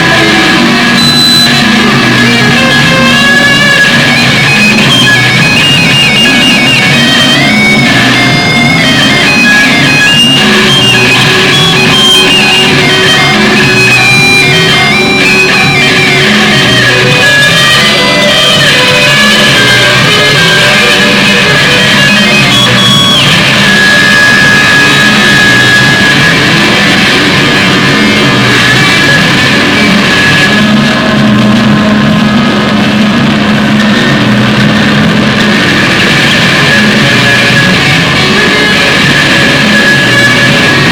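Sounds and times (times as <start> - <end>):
loud rock music with guitar: 0.0 - 40.9.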